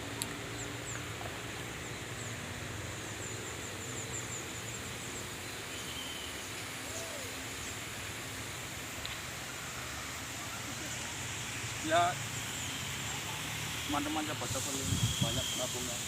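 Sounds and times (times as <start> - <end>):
steady rushing hiss: 0.0 - 16.0.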